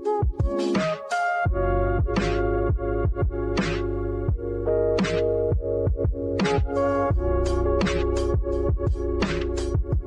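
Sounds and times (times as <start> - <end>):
electronic music with steady beat: 0.0 - 10.0
deep bass: 1.5 - 10.0.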